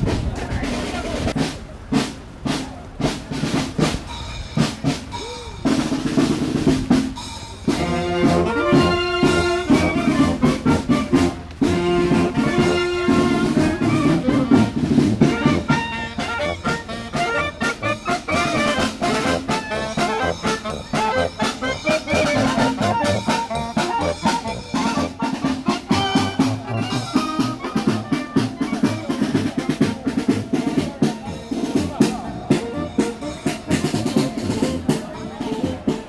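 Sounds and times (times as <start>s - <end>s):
drum strokes: 0.0s - 36.0s
marching band playing: 0.0s - 36.0s.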